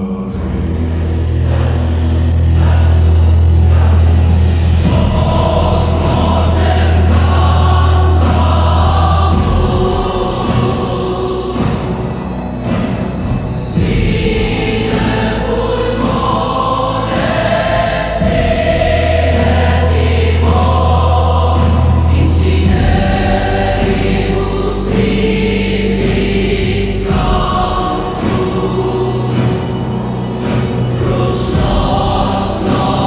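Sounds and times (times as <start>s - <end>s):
choir singing long notes: 0.0s - 33.0s
deep bass: 0.0s - 33.0s.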